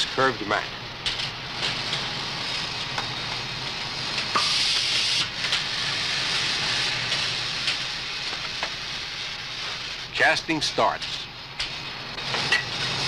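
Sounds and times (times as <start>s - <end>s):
casting machine hissing: 1.5s - 13.0s.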